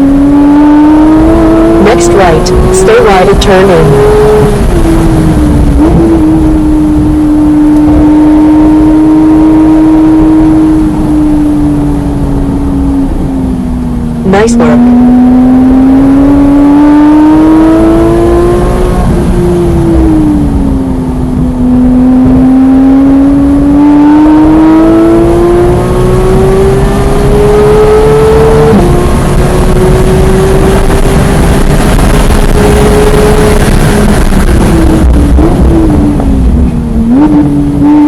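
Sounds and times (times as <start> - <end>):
car engine revving: 0.0 - 38.0
road and wind noise: 0.0 - 38.0.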